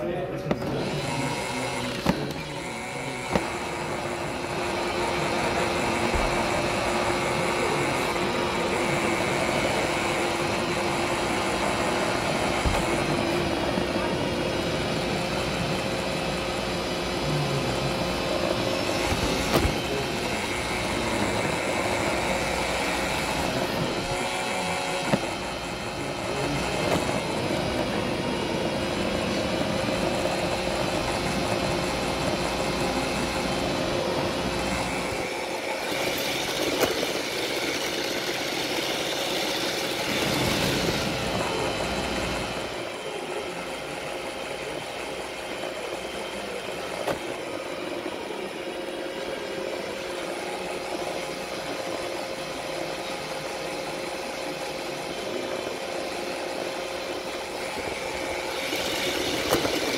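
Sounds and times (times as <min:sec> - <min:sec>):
robot vacuum whirring: 0:00.0 - 0:59.9.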